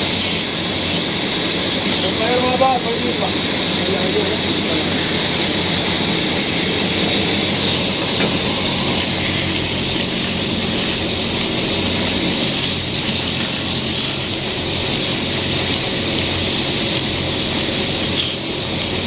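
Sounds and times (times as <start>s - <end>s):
woodworking power tool whining: 0.0s - 19.0s.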